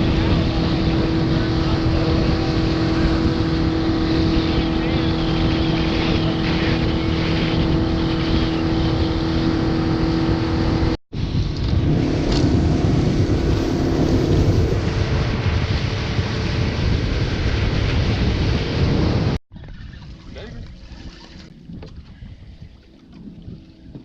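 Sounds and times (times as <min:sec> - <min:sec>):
motorboat engine running: 0:00.0 - 0:24.0
rushing wind: 0:00.0 - 0:24.0
water noise: 0:00.0 - 0:24.0.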